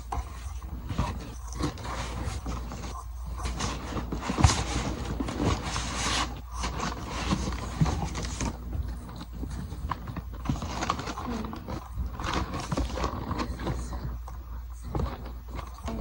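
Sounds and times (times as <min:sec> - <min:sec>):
cardboard and paper rustling: 0:00.0 - 0:16.0
steady low hum: 0:00.0 - 0:16.0.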